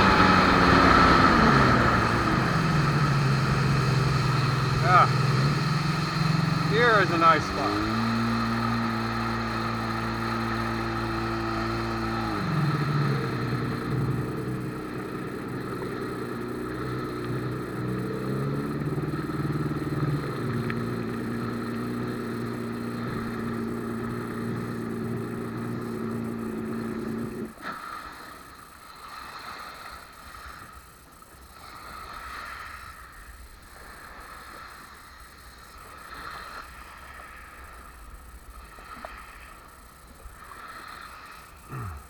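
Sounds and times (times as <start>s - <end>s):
jet ski engine running: 0.0s - 42.0s
water lapping at shoreline: 0.0s - 42.0s
wind: 0.0s - 42.0s.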